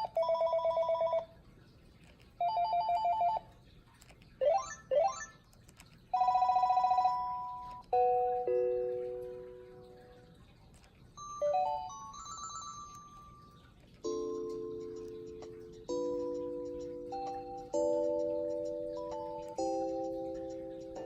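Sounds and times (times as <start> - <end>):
cordless phone ringtones: 0.0 - 1.4, 2.4 - 3.5, 4.4 - 5.4, 6.1 - 10.2, 11.2 - 21.0.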